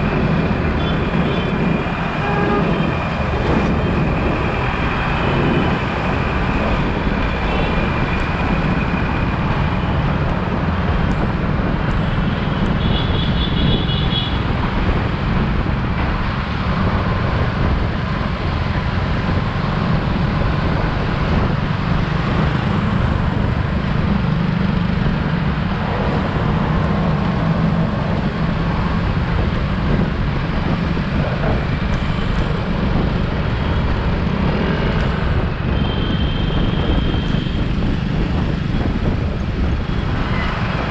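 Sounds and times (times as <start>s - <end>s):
road traffic: 0.0s - 40.9s
wind rush on camera: 0.0s - 40.9s.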